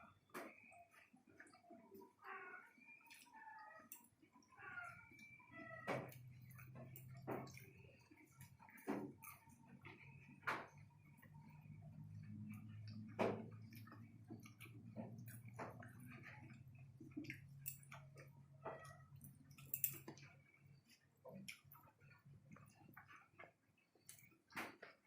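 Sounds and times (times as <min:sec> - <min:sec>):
low steady hum: 0:00.0 - 0:25.0
chewing: 0:00.5 - 0:25.0.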